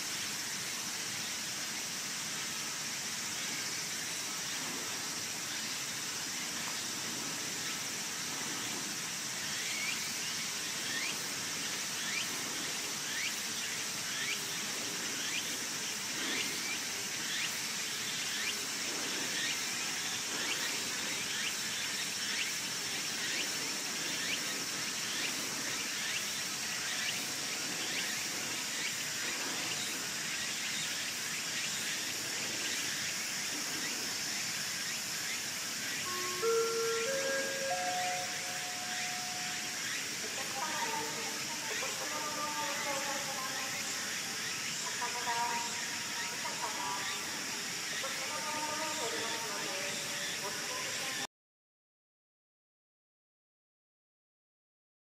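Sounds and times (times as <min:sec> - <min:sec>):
high insect-like buzz: 0:00.0 - 0:51.2.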